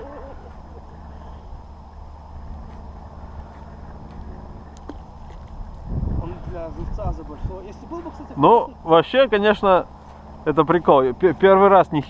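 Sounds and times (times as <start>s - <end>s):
wind buffeting microphone: 0.6s - 12.0s.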